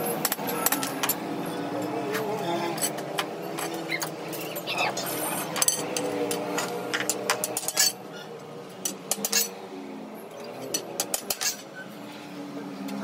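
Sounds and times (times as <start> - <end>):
metal tubes clinking: 0.0 - 9.6, 10.3 - 11.9.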